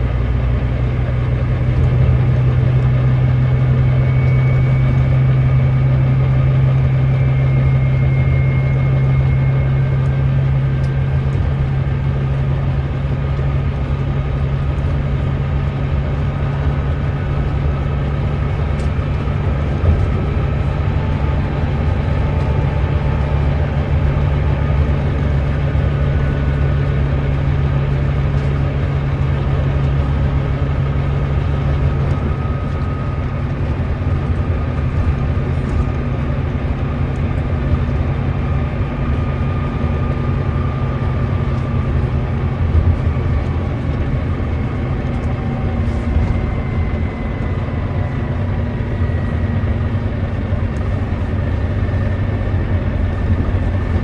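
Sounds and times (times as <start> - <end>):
diesel bus engine drone: 0.0 - 54.0.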